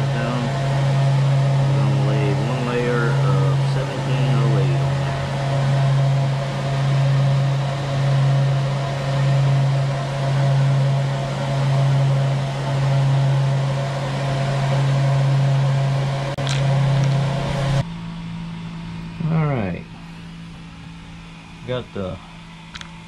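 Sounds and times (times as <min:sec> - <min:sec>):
ventilation blowers humming: 0:00.0 - 0:23.0.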